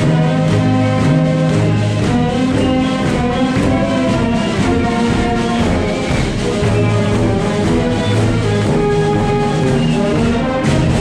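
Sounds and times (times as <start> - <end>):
audience clapping along: 0.0 - 11.0
concert band playing: 0.0 - 11.0.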